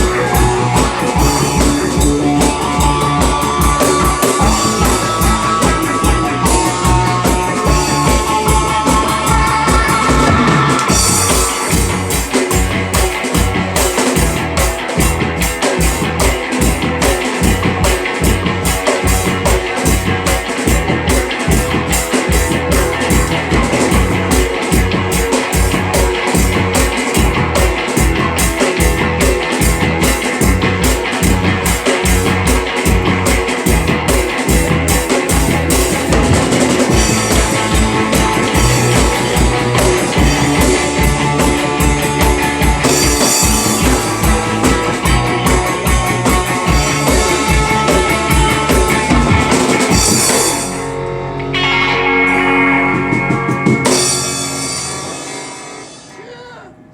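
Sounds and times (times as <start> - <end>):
drum kit fast beat: 0.0 - 51.0, 52.3 - 56.2
rock band playing: 0.0 - 56.9.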